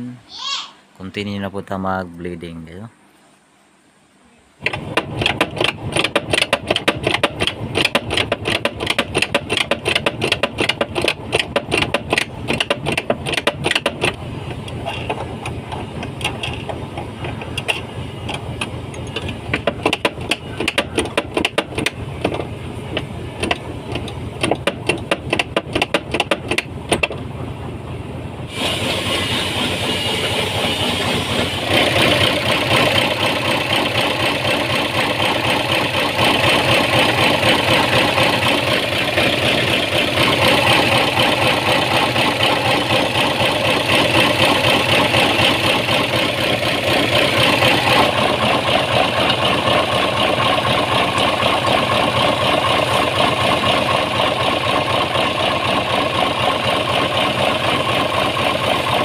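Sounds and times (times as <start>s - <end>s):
diesel truck engine idling: 7.3s - 59.0s.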